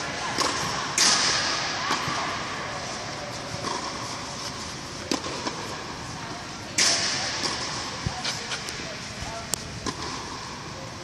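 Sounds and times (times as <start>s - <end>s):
indoor hall hiss: 0.0s - 11.0s.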